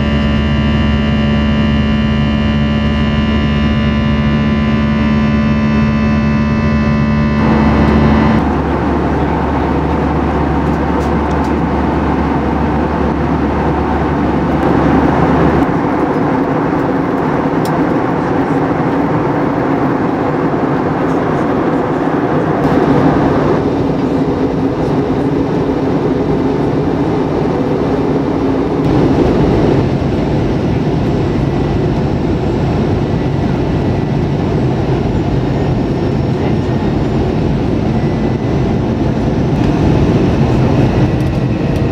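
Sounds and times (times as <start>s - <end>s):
jet engines and airflow: 0.0s - 41.9s.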